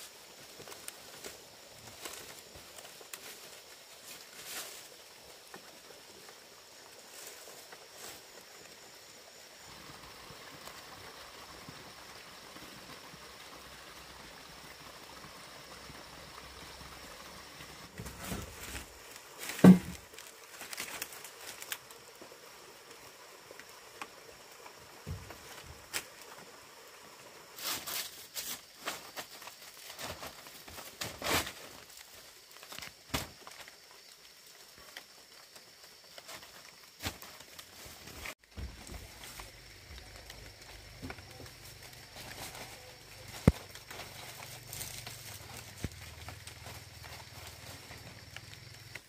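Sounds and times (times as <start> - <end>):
dry thatch crackling and rustling: 0.0 - 10.8, 16.3 - 49.0.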